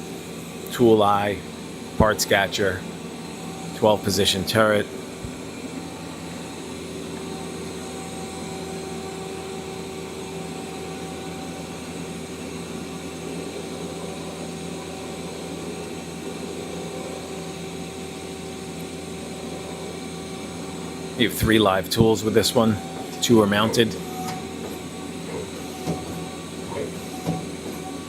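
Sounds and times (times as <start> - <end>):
machine hum with whining tones: 0.0 - 28.0.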